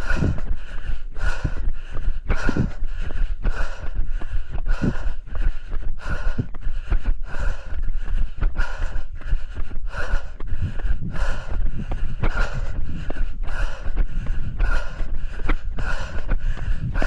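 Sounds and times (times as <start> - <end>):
wind rumbling on microphone: 0.0 - 5.2, 8.4 - 17.0
footsteps on trail: 0.0 - 17.0
heavy rhythmic breathing: 0.0 - 17.0.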